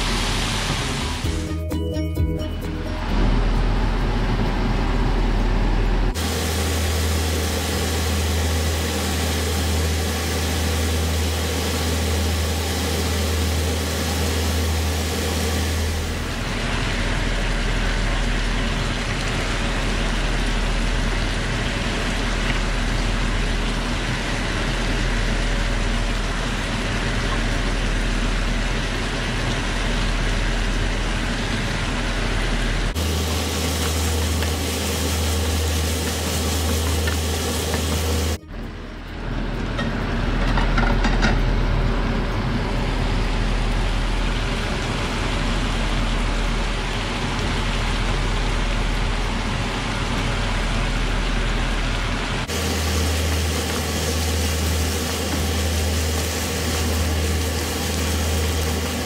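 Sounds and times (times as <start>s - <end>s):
food sizzling in a wok: 0.0s - 1.5s, 6.2s - 38.4s, 43.1s - 59.0s
steady low hum: 0.0s - 59.0s.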